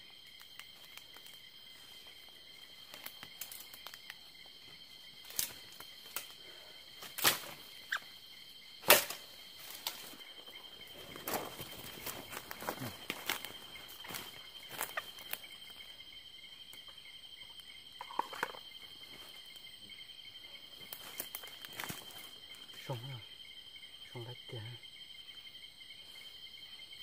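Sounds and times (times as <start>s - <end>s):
night insects chirring: 0.0s - 27.0s.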